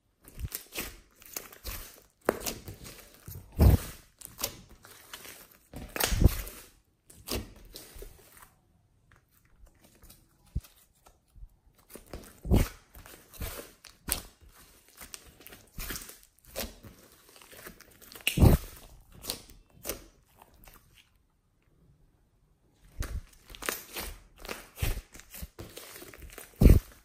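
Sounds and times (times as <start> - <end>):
wet slime squelches: 0.0 - 27.0.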